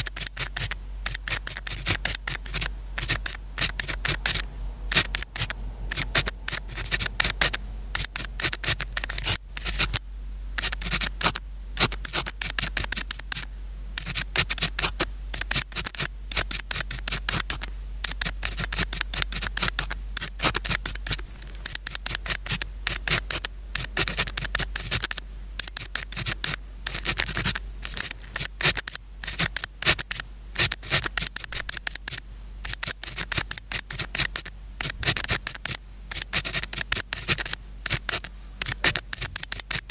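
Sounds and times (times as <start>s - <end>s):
pen scratching on paper: 0.0s - 10.0s, 10.6s - 39.9s.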